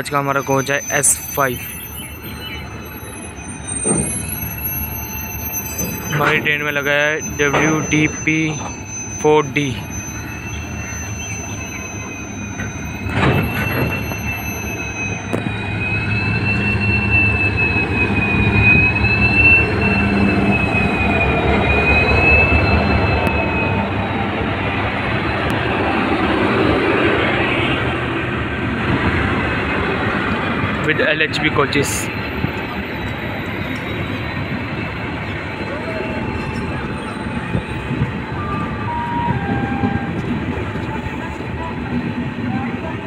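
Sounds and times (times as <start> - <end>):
high wavering wheel squeal: 0.0 - 43.0
train wheels rumbling on rails: 0.0 - 43.0.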